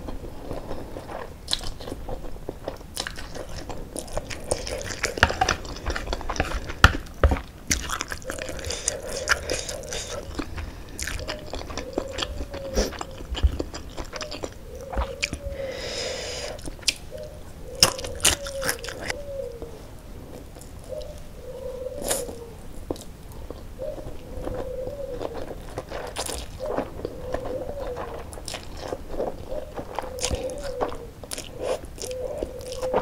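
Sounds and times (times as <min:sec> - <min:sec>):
wet chewing and lip smacks: 0:00.5 - 0:15.5, 0:16.4 - 0:17.2, 0:17.8 - 0:19.2, 0:22.0 - 0:33.0.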